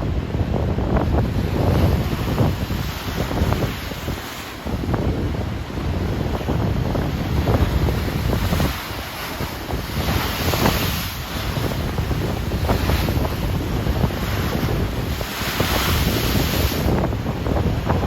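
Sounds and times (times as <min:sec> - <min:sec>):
ocean waves breaking: 0:00.0 - 0:18.0
wind buffeting microphone: 0:00.0 - 0:18.0.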